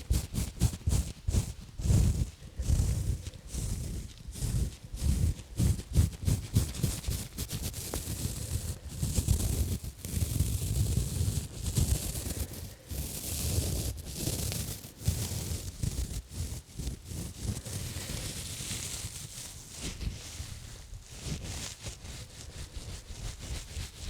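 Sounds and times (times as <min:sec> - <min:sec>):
gloves scrubbing on microphone: 0:00.0 - 0:24.0
hissy swirling rub: 0:00.0 - 0:24.0.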